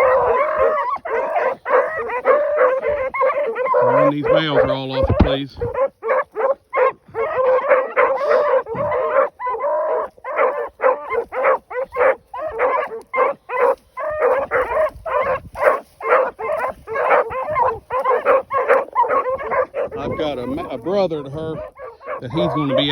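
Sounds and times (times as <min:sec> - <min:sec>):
hound bawling: 0:00.0 - 0:22.9
hounds barking: 0:00.0 - 0:22.9.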